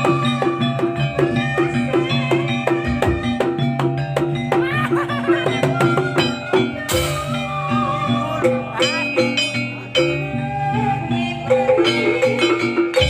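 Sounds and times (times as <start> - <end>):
drums and pitched percussion: 0.0 - 13.0
wavering melody line: 0.0 - 13.0.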